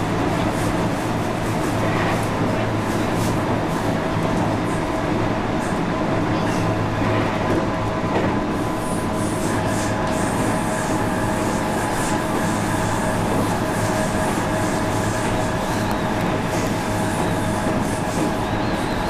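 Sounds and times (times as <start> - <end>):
train rail running noise: 0.0 - 19.0.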